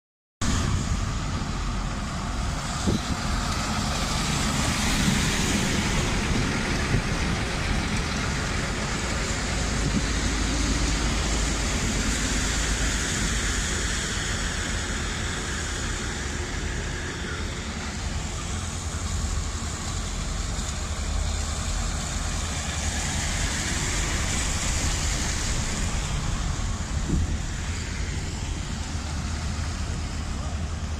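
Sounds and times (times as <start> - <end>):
diesel engines rumbling: 0.4 - 30.9
rain hissing on wet road: 0.4 - 30.9.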